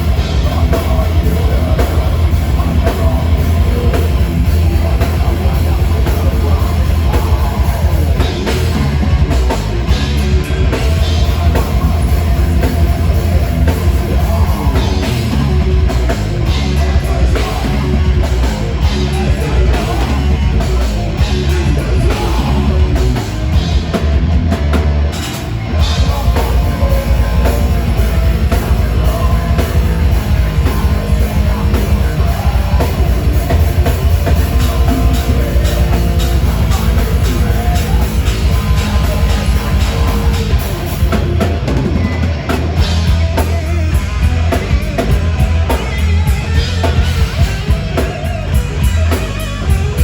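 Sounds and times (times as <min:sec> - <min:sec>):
fast steady drumming: 0:00.0 - 0:50.0
heavy metal band playing live: 0:00.0 - 0:50.0.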